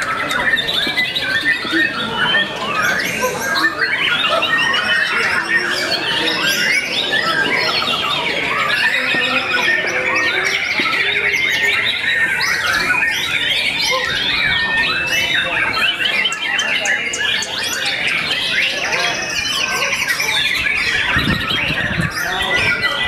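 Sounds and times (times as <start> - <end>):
birds singing in chorus: 0.0 - 23.0.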